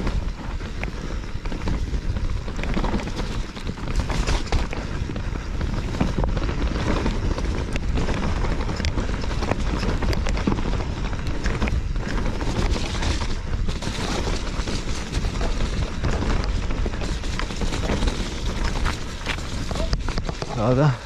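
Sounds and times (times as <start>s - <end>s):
bike knocking and rattling: 0.0s - 21.0s
tyres rumbling over dirt: 0.0s - 21.0s.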